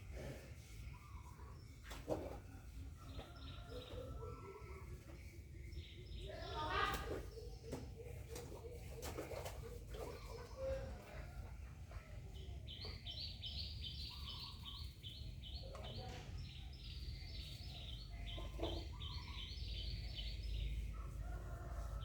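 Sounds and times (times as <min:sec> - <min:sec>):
birds chirping: 0:03.0 - 0:21.6.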